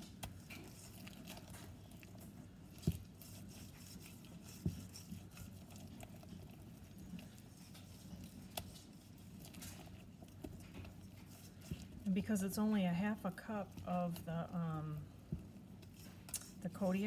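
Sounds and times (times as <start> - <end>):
whisk stirring batter in metal bowl: 0.0 - 17.0.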